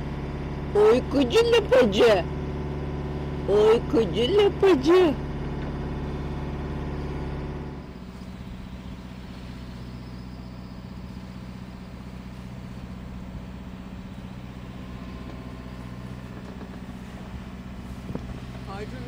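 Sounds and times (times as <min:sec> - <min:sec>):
loud low drone: 0:00.0 - 0:19.0
steady low hum: 0:00.0 - 0:19.0
wind: 0:00.0 - 0:19.0.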